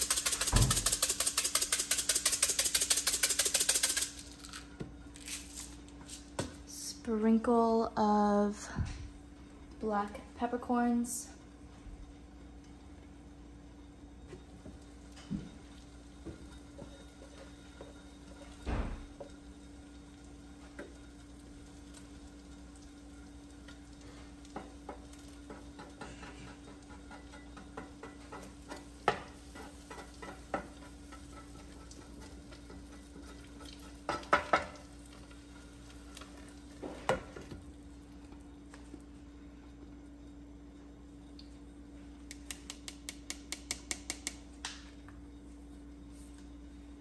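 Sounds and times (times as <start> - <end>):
batter frying: 0.0 - 6.8, 9.2 - 47.0.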